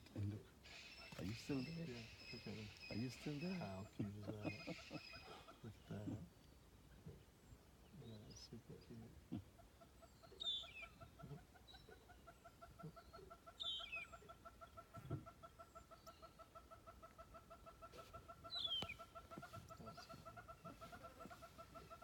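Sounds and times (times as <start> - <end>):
rapid clucking bird call: 0.1 - 6.3, 8.2 - 22.0.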